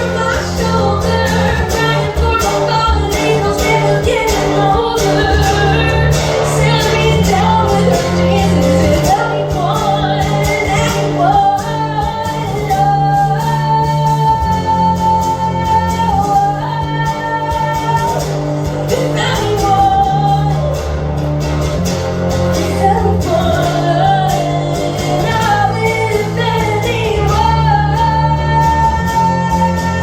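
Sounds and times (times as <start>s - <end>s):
person singing: 0.0s - 21.1s, 22.5s - 30.0s
instrumental accompaniment with bass: 0.0s - 30.0s.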